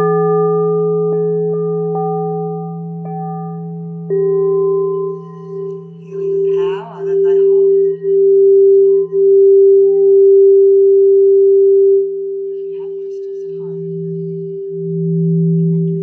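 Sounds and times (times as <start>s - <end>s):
singing bowl ringing tone: 0.0s - 16.0s.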